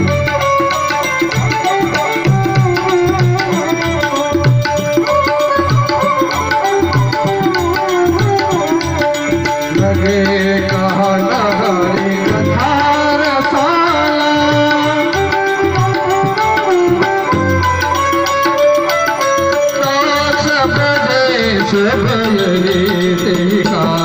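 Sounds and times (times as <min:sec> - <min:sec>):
tabla rhythm: 0:00.0 - 0:24.0
wavering melody: 0:00.0 - 0:24.0.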